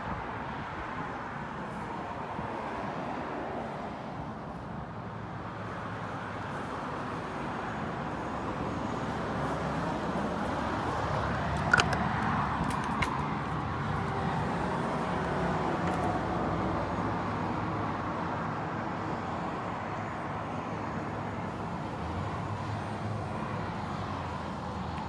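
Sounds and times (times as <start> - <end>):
outdoor background rush: 0.0 - 25.0.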